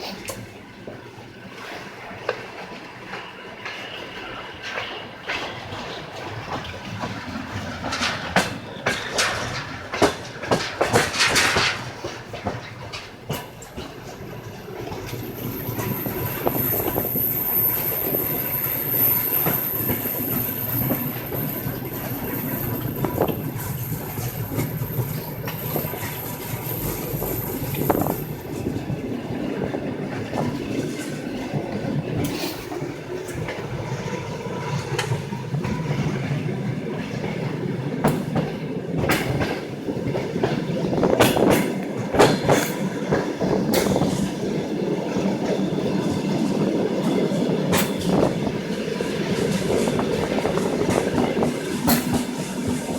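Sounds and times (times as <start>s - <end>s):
moving train rumble: 0.0s - 52.9s
train wheels clacking: 1.6s - 52.9s.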